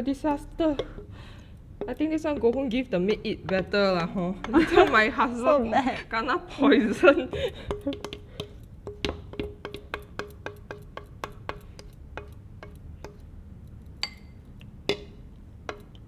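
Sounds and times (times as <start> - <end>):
spoon tapping against cup: 0.6 - 5.3, 7.2 - 16.0.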